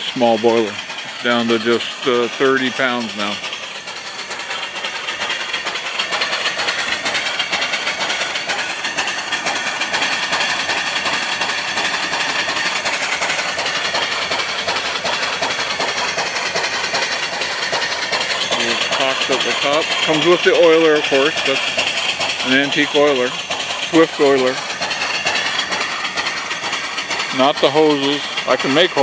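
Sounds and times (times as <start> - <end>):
steam engine running with hiss: 0.0 - 29.0.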